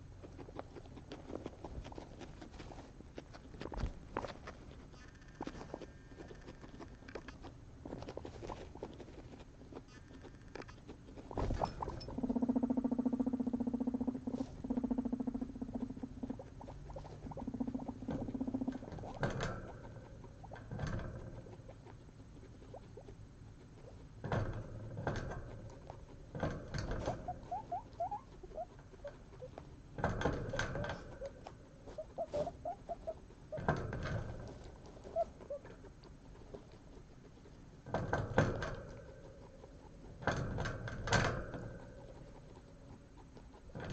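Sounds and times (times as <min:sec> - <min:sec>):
chewing: 0:00.0 - 0:43.9
guinea pig buzzing rumble: 0:00.0 - 0:43.9.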